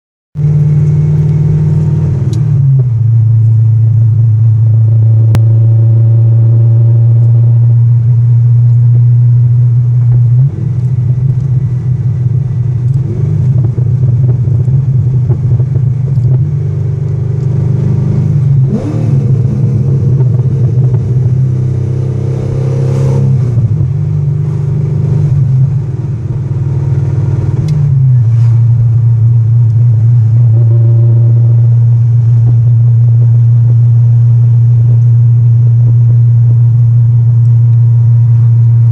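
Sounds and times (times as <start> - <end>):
car exhaust deep low note: 0.4 - 38.9.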